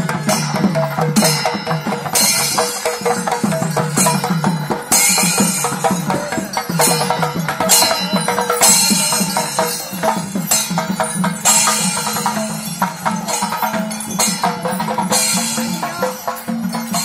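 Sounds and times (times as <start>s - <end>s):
fast drum strokes: 0.0s - 17.0s.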